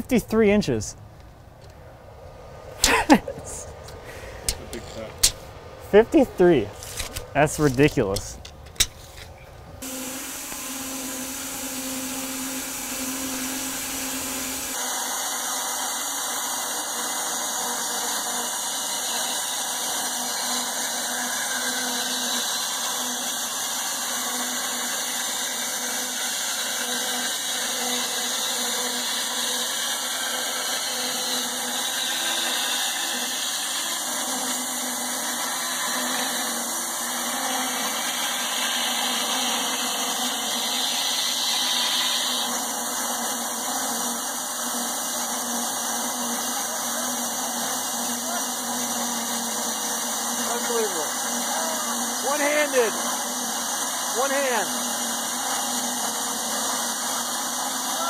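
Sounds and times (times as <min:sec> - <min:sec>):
bandsaw mill sawing wood: 0:02.8 - 0:09.1, 0:09.8 - 0:58.0.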